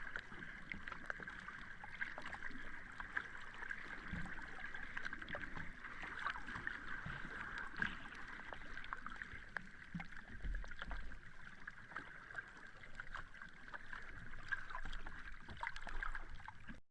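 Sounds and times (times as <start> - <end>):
sea water lapping: 0.0 - 16.8
small water splashes: 0.0 - 16.8.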